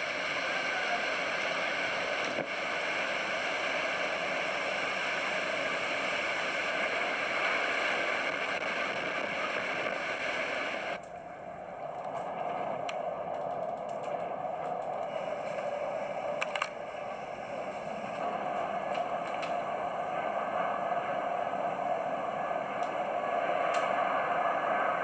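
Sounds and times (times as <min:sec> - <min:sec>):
wind and heavy rain rushing: 0:00.0 - 0:25.0.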